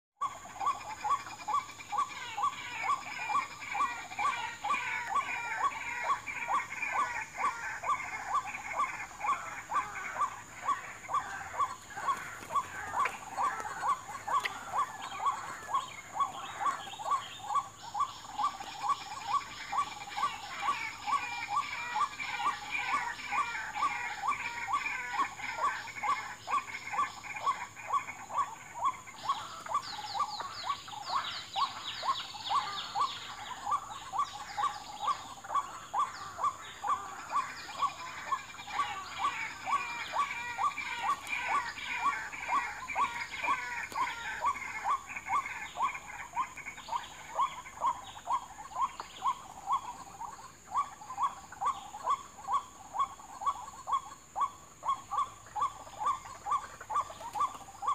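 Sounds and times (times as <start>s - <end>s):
chatter of higher bird calls: 0.2s - 57.9s
monotonous bird calls: 0.2s - 57.9s.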